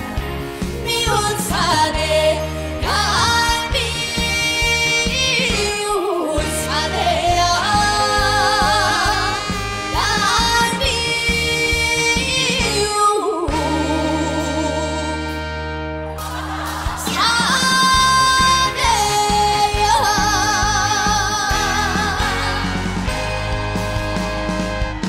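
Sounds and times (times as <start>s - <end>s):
women singing with vibrato: 0.0s - 15.2s, 16.2s - 23.2s
band accompaniment with bass: 0.0s - 25.0s.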